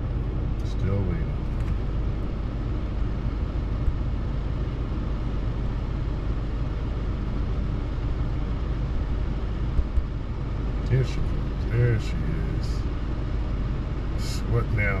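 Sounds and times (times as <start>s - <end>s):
vehicle idling: 0.0s - 15.0s.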